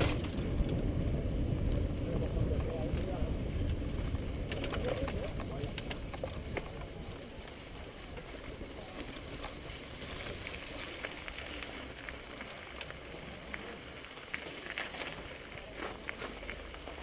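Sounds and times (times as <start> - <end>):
bike rattling over bumps: 0.0 - 17.0
mountain bike rolling on dirt trail: 0.0 - 17.0.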